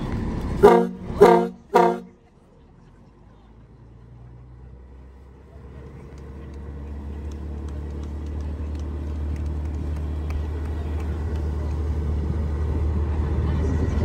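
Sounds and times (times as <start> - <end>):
boat engine droning: 0.0 - 2.4, 4.6 - 14.0.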